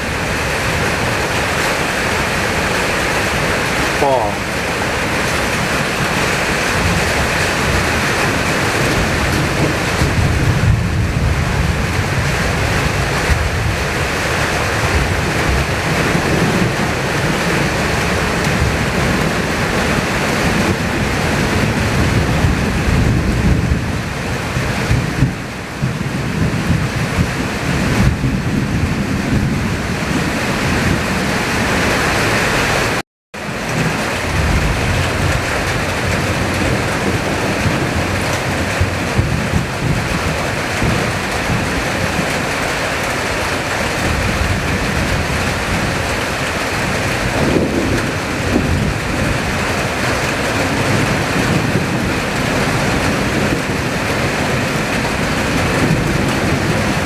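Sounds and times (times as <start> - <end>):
gusting wind: 0.0 - 57.0
heavy rain pouring: 0.0 - 57.0
wind buffeting microphone: 0.0 - 57.0.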